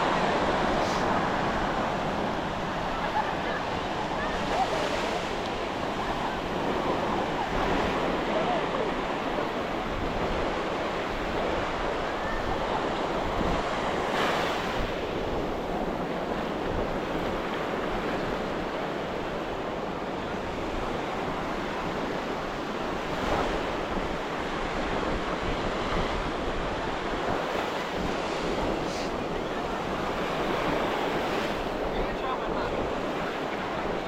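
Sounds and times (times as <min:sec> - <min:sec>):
ocean waves breaking on beach: 0:00.0 - 0:34.0
wind buffeting microphone: 0:00.0 - 0:34.0.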